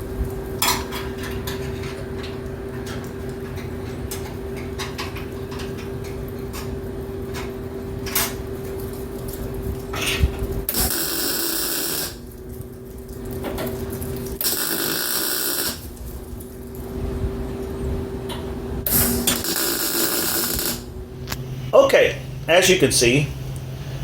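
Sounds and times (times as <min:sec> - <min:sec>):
electric arc welder crackling: 0:00.0 - 0:24.0
steady hum: 0:00.0 - 0:24.0.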